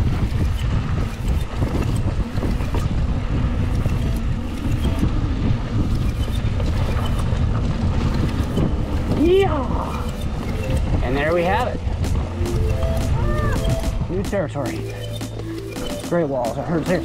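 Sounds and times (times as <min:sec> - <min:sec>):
wind buffeting microphone: 0:00.0 - 0:15.5
bike rattling over rocks: 0:00.0 - 0:17.0
mountain bike tyres rumbling: 0:00.0 - 0:17.0.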